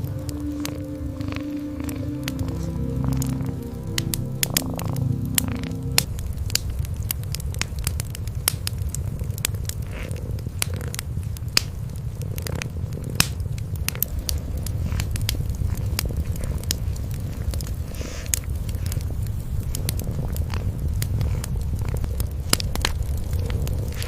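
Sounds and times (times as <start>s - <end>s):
cats purring: 0.0s - 24.0s
fireplace fire crackling: 0.0s - 24.0s.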